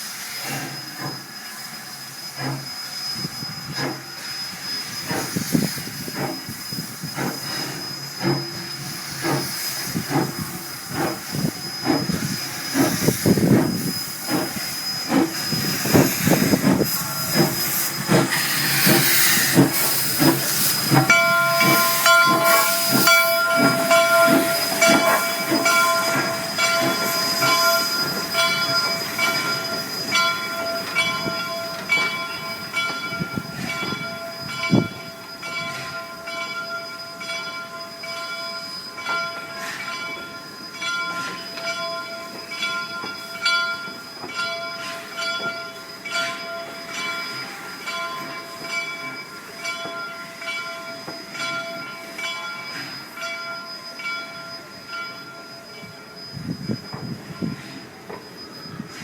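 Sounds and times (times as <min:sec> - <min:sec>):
steam hissing: 0:00.0 - 0:59.0
steam locomotive chuffing: 0:00.0 - 0:59.0
metallic squeal: 0:00.1 - 0:49.6, 0:50.2 - 0:59.0.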